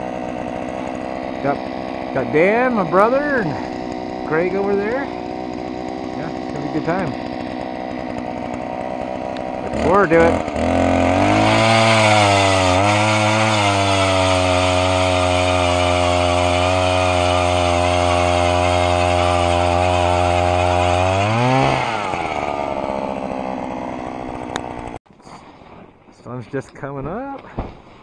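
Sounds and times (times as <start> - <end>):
ice auger engine running: 0.0 - 25.0.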